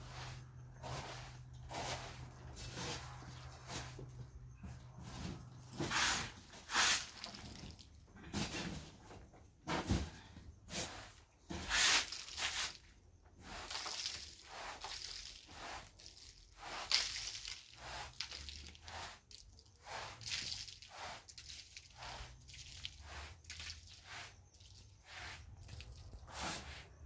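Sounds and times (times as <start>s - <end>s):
broom sweeping carpet: 0.0s - 4.0s, 5.0s - 7.6s, 10.7s - 12.8s, 13.4s - 27.0s.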